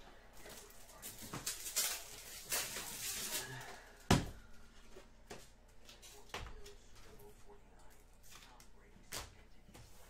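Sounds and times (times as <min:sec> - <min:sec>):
cards and wrappers rustling: 0:00.4 - 0:10.0.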